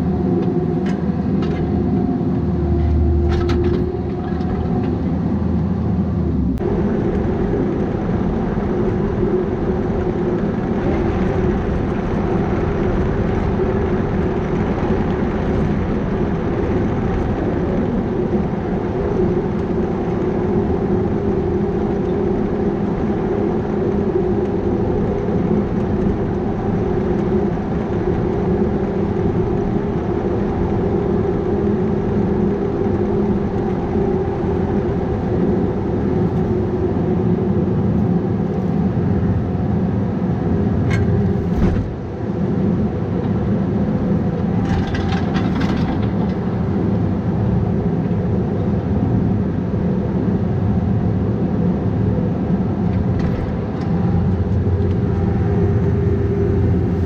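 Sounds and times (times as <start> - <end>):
excavator diesel engine running: 0.0 - 42.3, 51.7 - 57.0.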